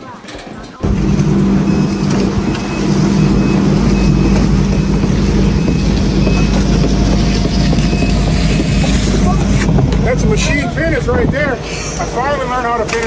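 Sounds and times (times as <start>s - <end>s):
engine running steadily: 0.8s - 13.0s.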